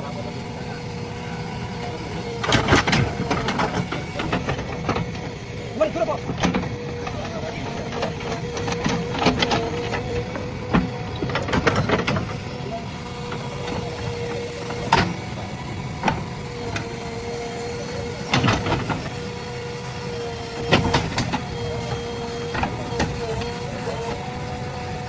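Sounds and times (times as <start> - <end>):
diesel engine humming: 0.0 - 25.0
sharp knocks and clanks: 1.8 - 24.3.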